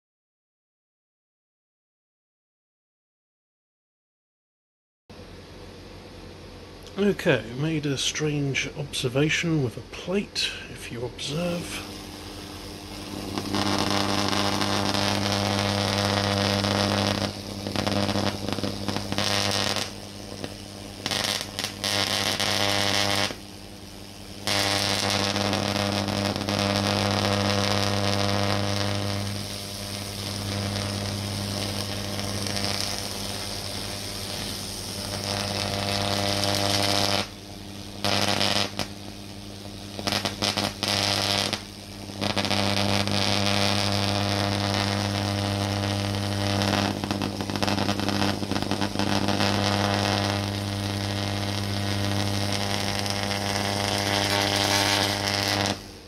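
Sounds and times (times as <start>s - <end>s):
steady electrical buzz: 5.1s - 56.0s
sizzling hiss: 6.8s - 56.0s
tesla coil sparks arcing: 6.9s - 56.0s.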